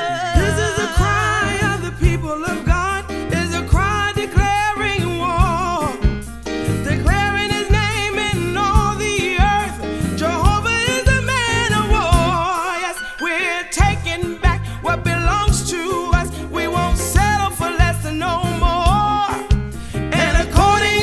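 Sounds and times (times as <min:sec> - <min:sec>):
person singing with vibrato: 0:00.0 - 0:06.2, 0:06.8 - 0:21.0
bass: 0:00.0 - 0:12.7, 0:13.8 - 0:21.0
drums: 0:00.3 - 0:12.9, 0:13.8 - 0:21.0.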